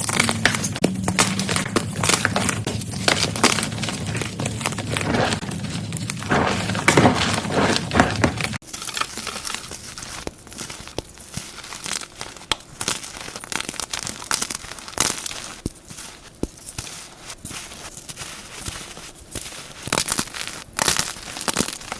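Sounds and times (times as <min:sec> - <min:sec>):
chalk crunching and crumbling: 0:00.4 - 0:21.9.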